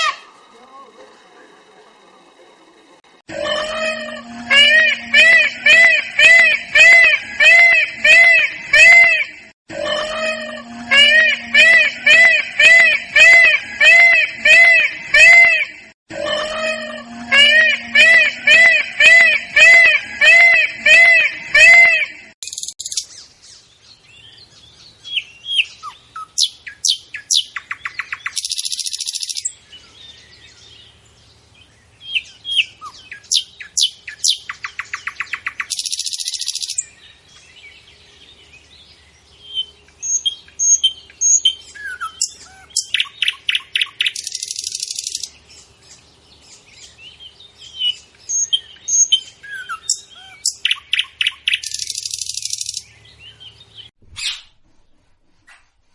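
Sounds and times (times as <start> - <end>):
bird chirps and trill: 3.4 - 15.8, 16.4 - 54.6.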